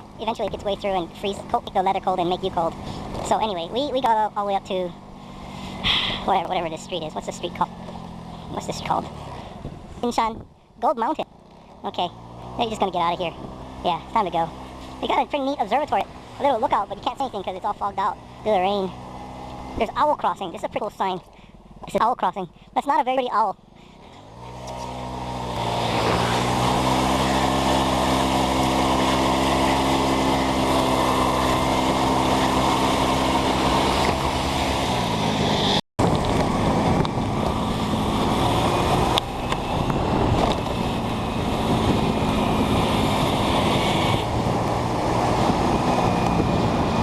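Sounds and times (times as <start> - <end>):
rushing wind and road noise: 0.0 - 21.8, 24.0 - 47.0
motor scooter engine: 0.0 - 22.8, 23.6 - 47.0.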